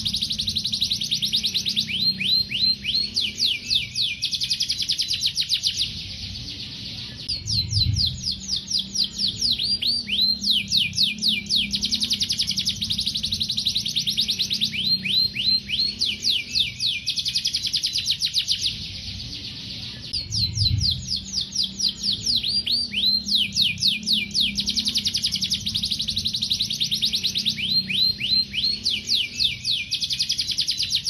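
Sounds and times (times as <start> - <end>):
canary singing trills: 0.0 - 31.0.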